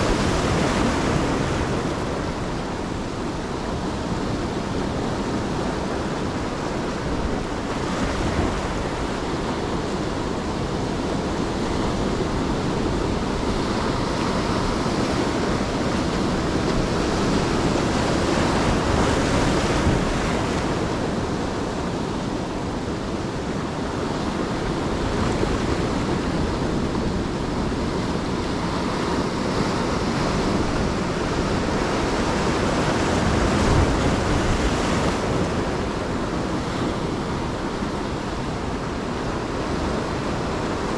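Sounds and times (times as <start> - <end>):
ocean surf washing on beach: 0.0 - 40.9
wind buffeting microphone: 0.0 - 40.9.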